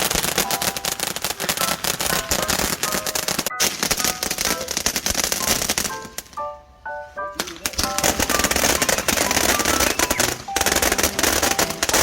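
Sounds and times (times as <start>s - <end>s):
firecrackers crackling: 0.0s - 12.0s.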